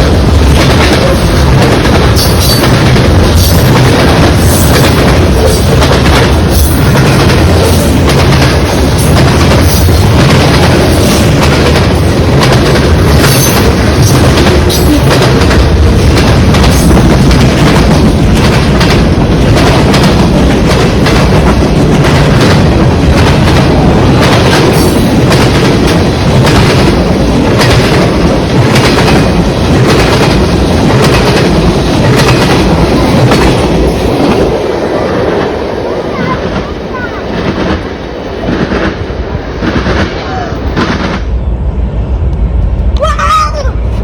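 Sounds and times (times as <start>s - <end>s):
freight train wheels clacking: 0.0s - 41.4s.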